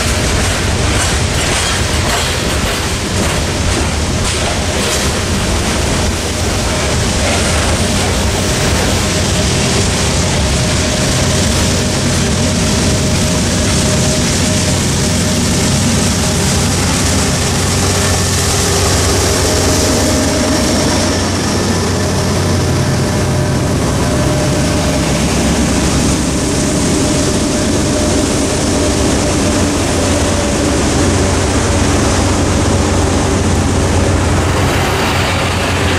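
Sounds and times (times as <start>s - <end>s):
diesel locomotive running: 0.0s - 35.9s
train cars rumbling on rails: 0.0s - 35.9s
trucks driving by: 6.2s - 35.9s.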